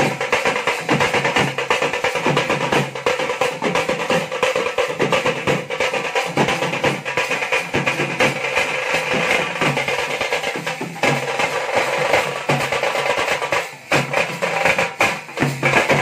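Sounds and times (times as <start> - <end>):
drum ensemble playing: 0.0 - 16.0
jingling metal percussion: 0.0 - 16.0.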